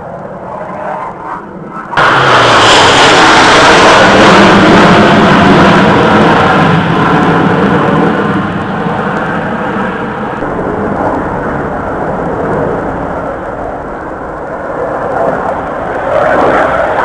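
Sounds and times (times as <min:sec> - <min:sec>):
jet roar: 0:00.0 - 0:17.0.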